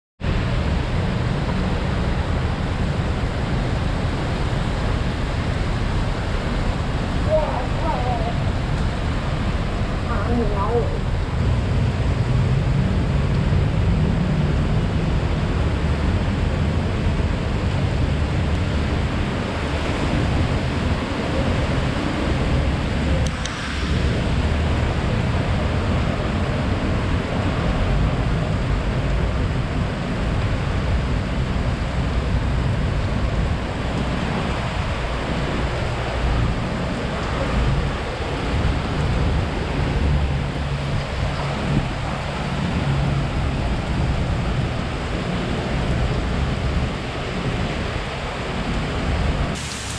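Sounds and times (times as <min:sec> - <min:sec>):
wind buffeting microphone: 0:00.2 - 0:49.9.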